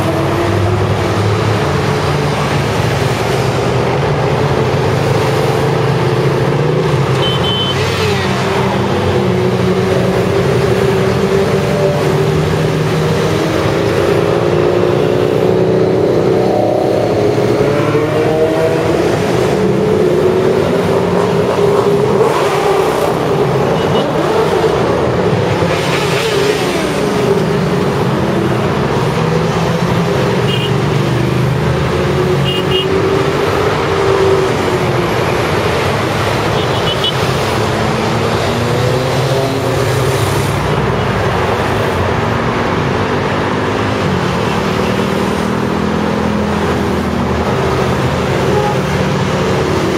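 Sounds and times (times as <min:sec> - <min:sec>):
motorway traffic rushing: 0:00.0 - 0:49.9.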